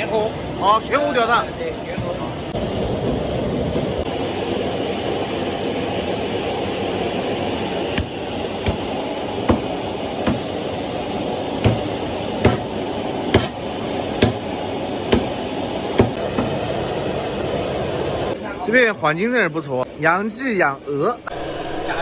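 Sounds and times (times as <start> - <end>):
steady rushing background noise: 0.0 - 19.8, 21.3 - 22.0.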